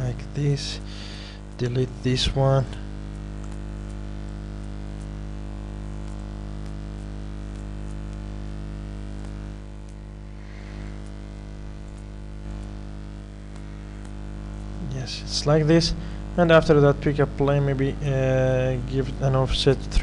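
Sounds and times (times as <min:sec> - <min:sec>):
electrical mains hum and hiss: 0:00.0 - 0:20.0.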